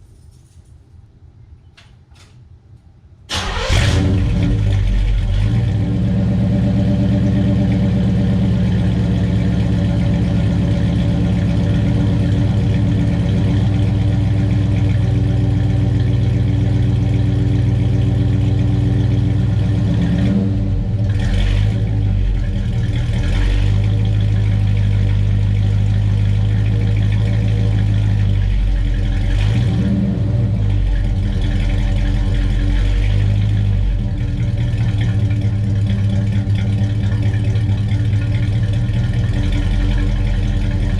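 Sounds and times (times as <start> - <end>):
car engine exhaust note: 3.5 - 40.9.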